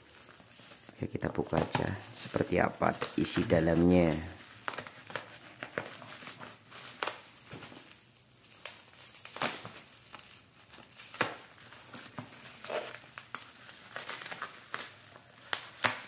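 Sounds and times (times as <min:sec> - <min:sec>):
plastic wrapping crinkling: 0:00.0 - 0:16.0
packing tape being cut: 0:02.9 - 0:16.0.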